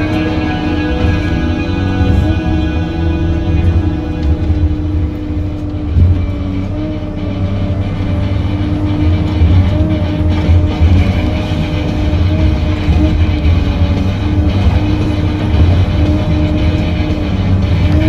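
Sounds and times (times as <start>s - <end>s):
engine clatter: 0.0s - 18.0s
engine running steadily: 0.0s - 18.0s.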